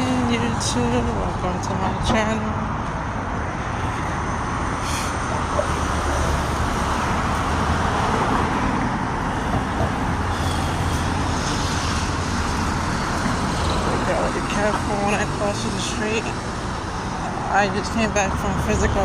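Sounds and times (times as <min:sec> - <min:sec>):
road noise from passing cars: 0:00.0 - 0:19.0
vehicle passing by: 0:00.0 - 0:19.0.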